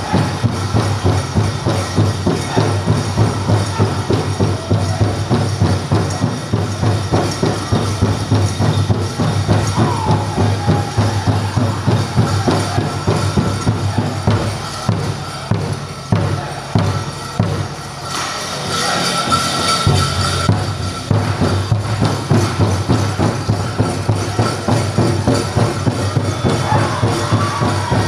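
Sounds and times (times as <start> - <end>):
voices singing high: 0.0 - 21.5, 23.2 - 28.0
large hand drum pounding: 0.0 - 28.0.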